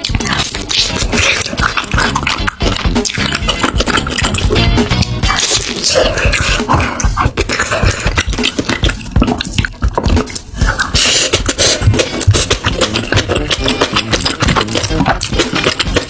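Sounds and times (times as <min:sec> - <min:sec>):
person chewing and crunching: 0:00.0 - 0:16.0.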